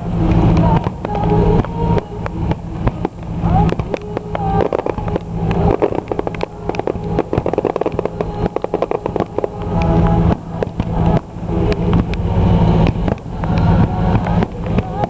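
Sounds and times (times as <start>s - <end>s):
fireworks bangs and crackling: 0.0s - 15.0s
steady low hum: 0.0s - 15.0s.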